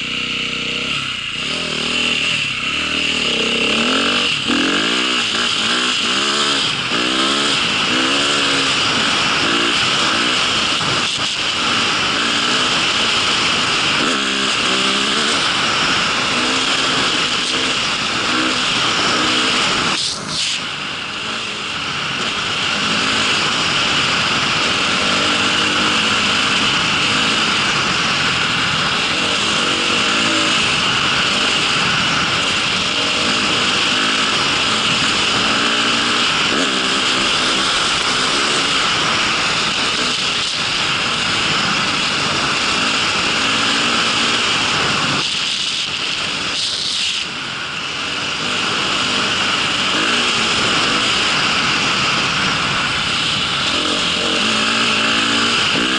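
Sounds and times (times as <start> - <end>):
hiss of travel noise: 0.0 - 55.9
vehicle engine running: 0.0 - 55.9.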